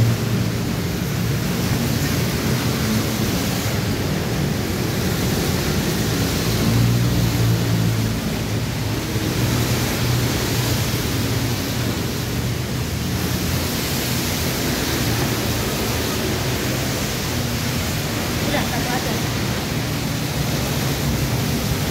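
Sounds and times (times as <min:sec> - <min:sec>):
rain hissing: 0:00.0 - 0:21.9.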